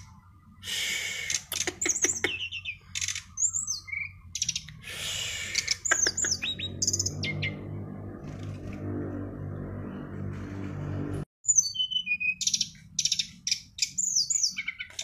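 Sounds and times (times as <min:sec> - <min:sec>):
songbird singing: 0:00.0 - 0:08.6, 0:11.4 - 0:15.0.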